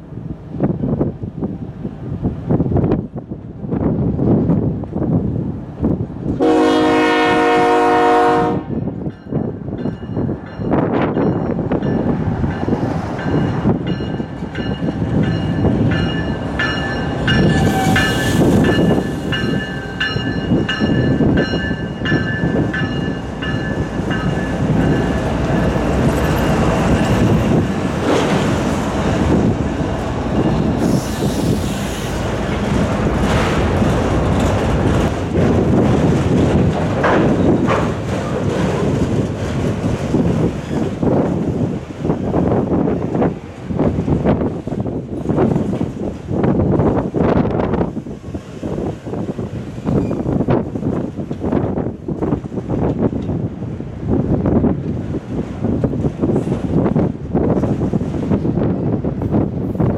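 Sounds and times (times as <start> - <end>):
diesel locomotives passing: 0.0 - 59.9
train wheel clatter and rumble: 0.0 - 59.9.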